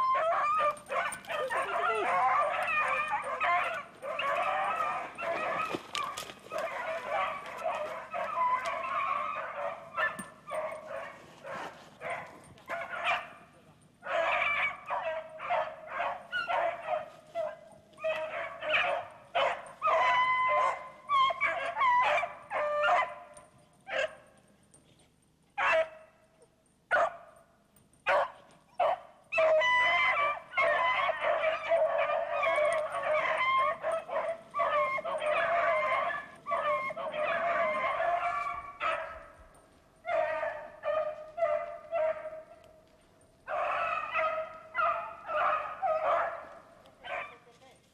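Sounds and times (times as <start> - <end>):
dogs baying: 0.0 - 24.3, 28.1 - 47.4.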